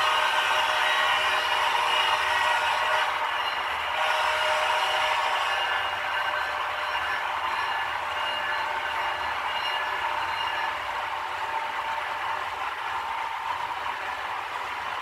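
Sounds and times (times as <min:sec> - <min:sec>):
model train running: 0:00.0 - 0:15.0.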